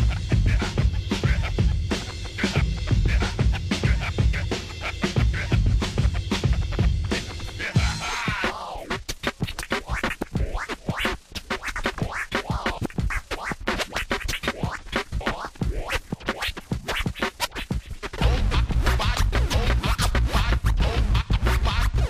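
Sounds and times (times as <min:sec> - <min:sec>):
electronic music with scratch sweeps: 0:00.0 - 0:22.0.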